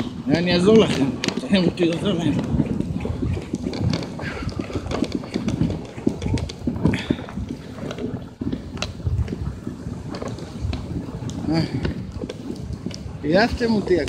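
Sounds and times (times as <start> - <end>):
dog sled crunching over snow: 0.0 - 14.0.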